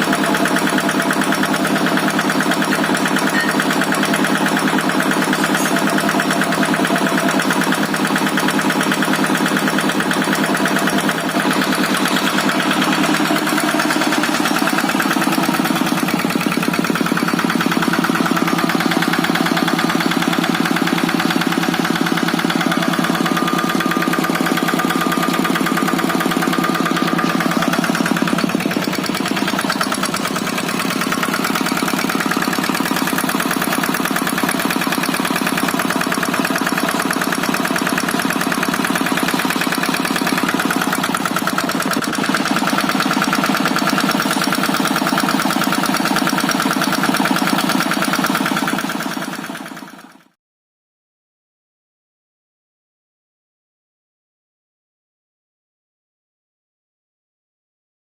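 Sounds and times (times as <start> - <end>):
diesel engine running: 0.0 - 50.4.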